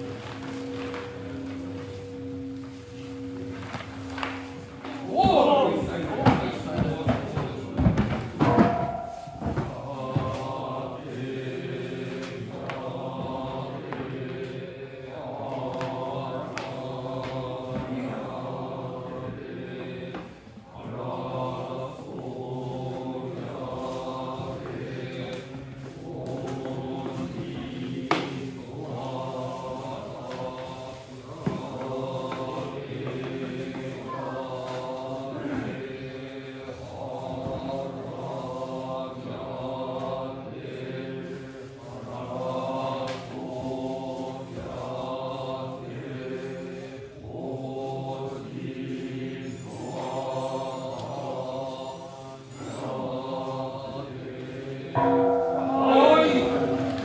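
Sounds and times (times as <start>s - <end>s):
low drone of voices: 0.0s - 57.0s
monks chanting in unison: 0.0s - 57.0s.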